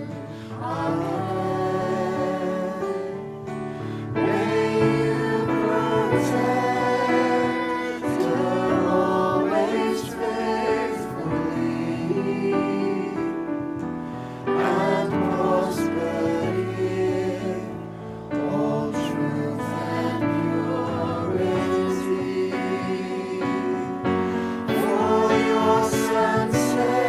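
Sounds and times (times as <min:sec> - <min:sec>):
worship song with vocals: 0:00.0 - 0:27.0.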